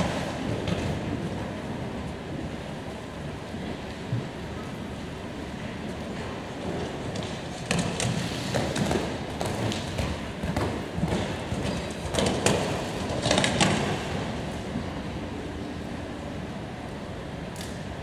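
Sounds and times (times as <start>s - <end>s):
indoor arena hum: 0.0s - 18.0s.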